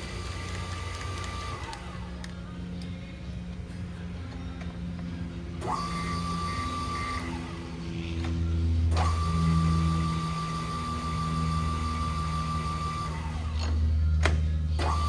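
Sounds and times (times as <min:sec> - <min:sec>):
lathe motor whine: 0:00.0 - 0:15.0
steady low hum: 0:00.0 - 0:15.0.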